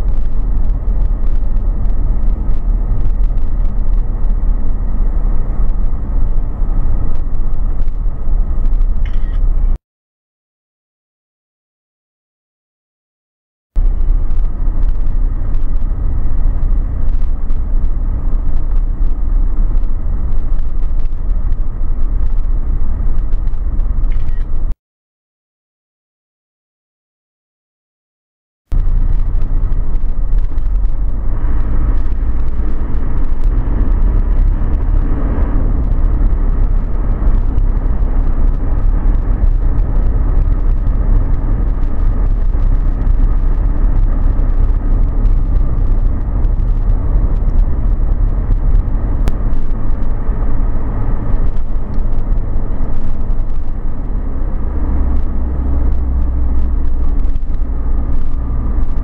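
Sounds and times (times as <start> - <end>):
car driving road rumble: 0.0 - 9.8, 13.8 - 24.8, 28.7 - 59.0.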